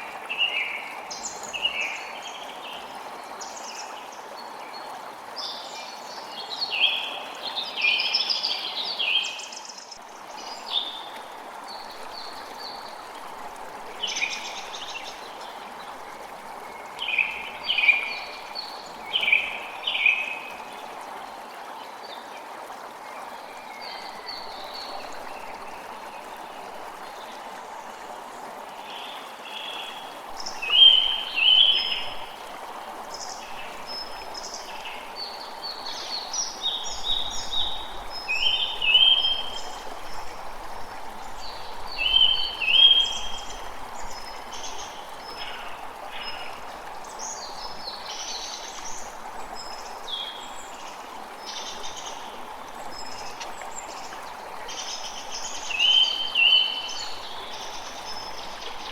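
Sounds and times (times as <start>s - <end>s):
creek water flowing: 0.0s - 58.9s.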